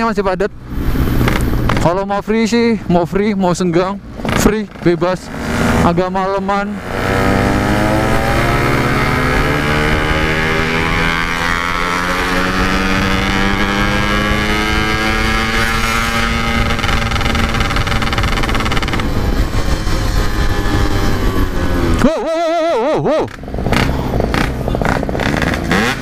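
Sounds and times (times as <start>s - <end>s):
two-stroke motorcycle engine under load: 3.9s - 26.0s.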